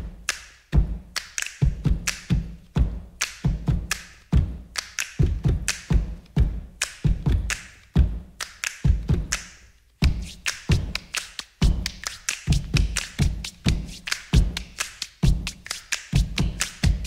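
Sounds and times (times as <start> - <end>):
drum beat: 0.0 - 9.4, 10.0 - 17.0.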